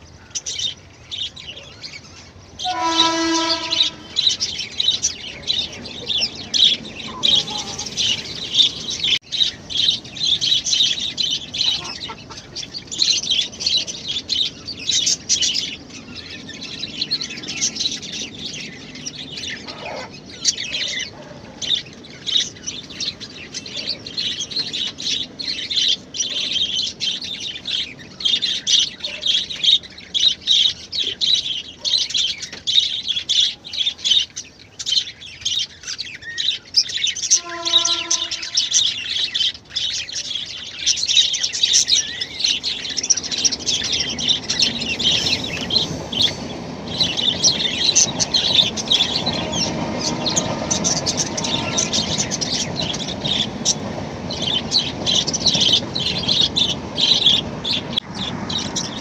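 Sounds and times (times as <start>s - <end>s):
small birds chirping and twittering: 0.0s - 59.0s.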